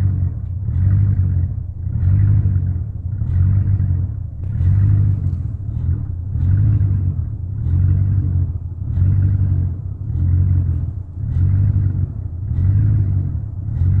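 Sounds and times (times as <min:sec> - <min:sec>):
truck engine idling roughly: 0:00.0 - 0:14.0.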